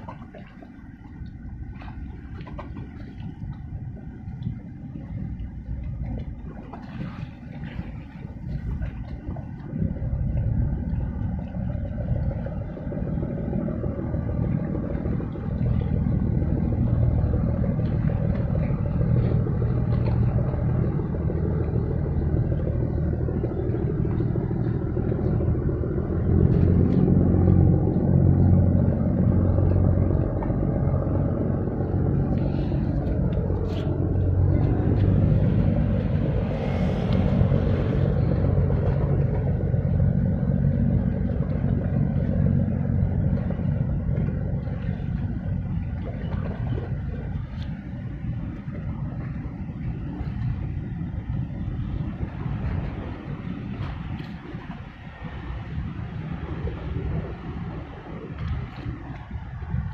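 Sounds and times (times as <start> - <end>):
ship diesel engine rumble: 0.0 - 59.9.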